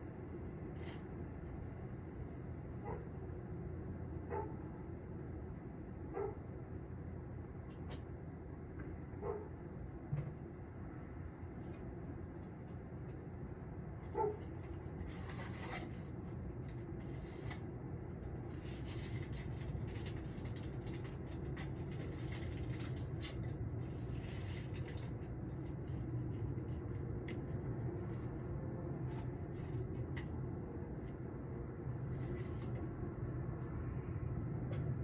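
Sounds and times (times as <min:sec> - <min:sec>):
distant city traffic rumble: 0:00.0 - 0:35.0.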